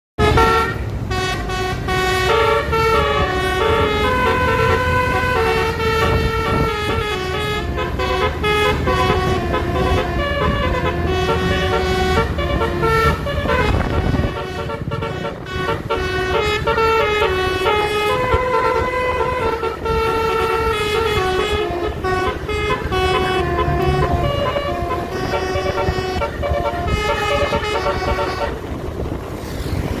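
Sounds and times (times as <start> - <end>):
multi-trumpet horn tune: 0.2 - 28.8.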